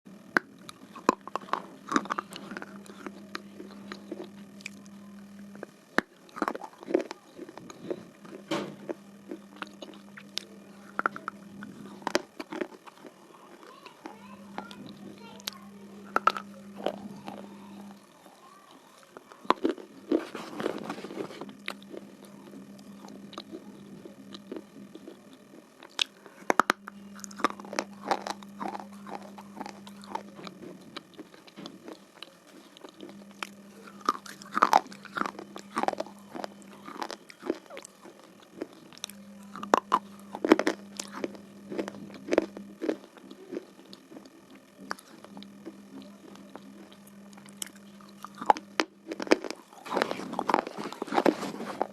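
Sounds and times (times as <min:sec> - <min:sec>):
pencil being chewed crunchily: 0:00.2 - 0:51.9.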